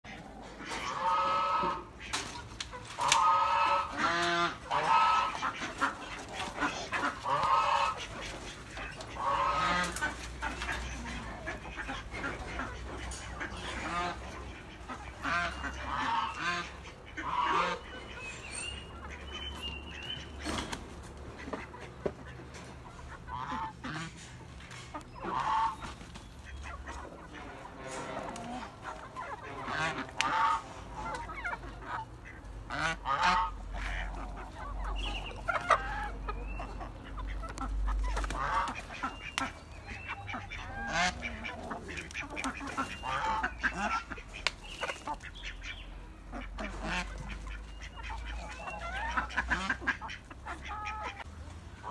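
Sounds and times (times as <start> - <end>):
chickens: 0.0 - 51.9
geese honking: 0.0 - 51.9.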